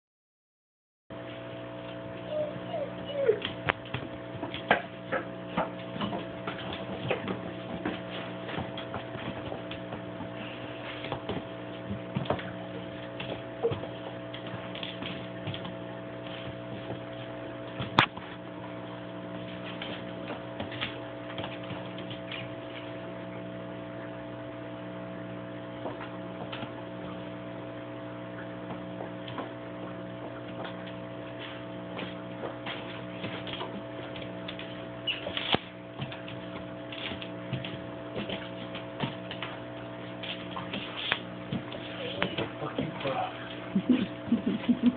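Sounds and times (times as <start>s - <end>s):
electrical hum: 1.2s - 44.9s.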